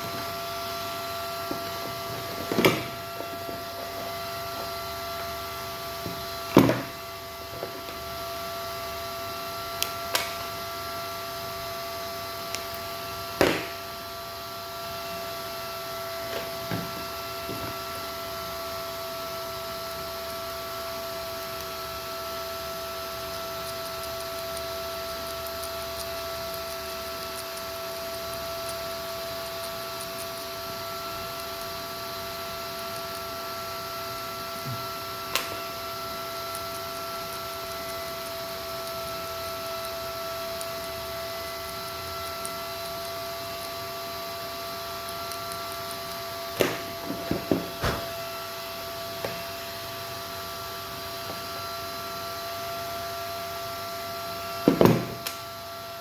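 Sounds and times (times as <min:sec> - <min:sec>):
steady electrical whine: 0:00.0 - 0:56.0.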